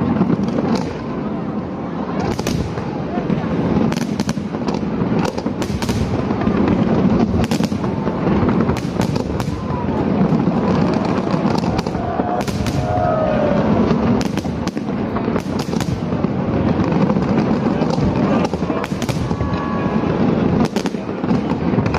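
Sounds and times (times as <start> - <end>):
fireworks bangs and crackles: 0.0 - 21.9.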